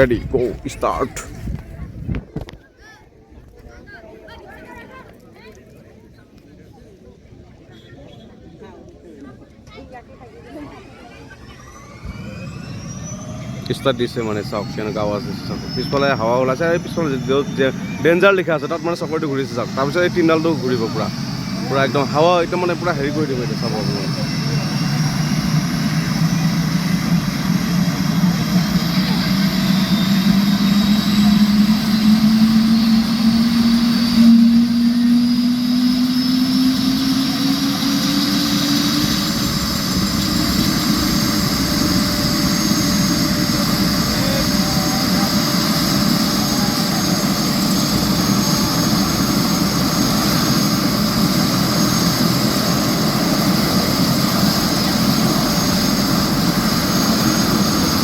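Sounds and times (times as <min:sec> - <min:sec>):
helicopter engine and rotors: 0:00.0 - 0:02.6, 0:08.4 - 0:58.0.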